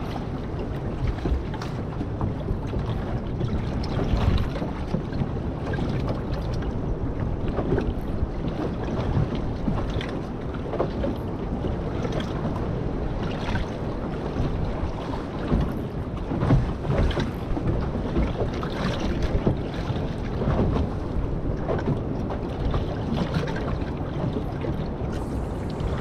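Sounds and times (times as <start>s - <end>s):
water slapping around boat: 0.0s - 26.0s
wind buffeting microphone: 0.0s - 26.0s.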